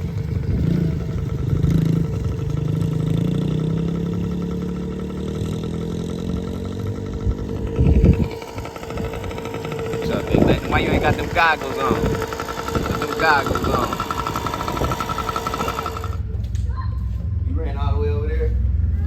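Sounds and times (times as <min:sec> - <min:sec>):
dirt bike engine revving: 0:00.0 - 0:16.4
loud low rumble: 0:00.0 - 0:16.6.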